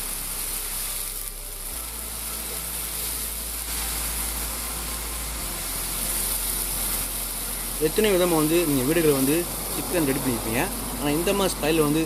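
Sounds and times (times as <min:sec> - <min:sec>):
paste sizzling in a pan: 0:00.0 - 0:12.0.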